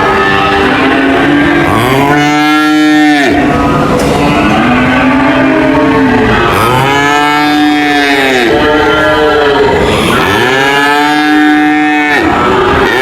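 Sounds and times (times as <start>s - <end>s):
cows mooing: 0.0s - 13.0s.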